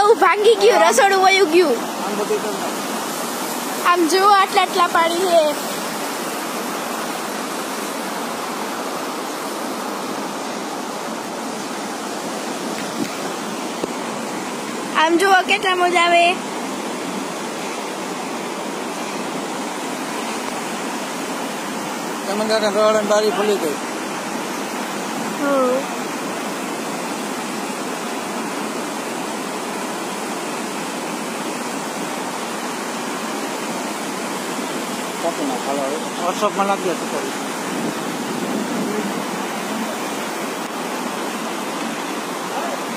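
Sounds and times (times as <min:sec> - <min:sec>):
rushing floodwater: 0:00.0 - 0:42.9.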